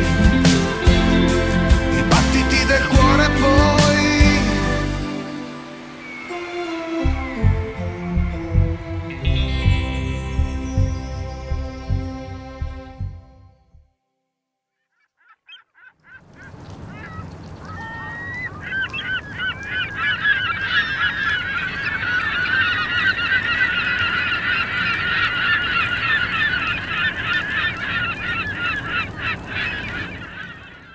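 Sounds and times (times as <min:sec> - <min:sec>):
gulls calling: 0:00.0 - 0:12.3, 0:15.2 - 0:30.9.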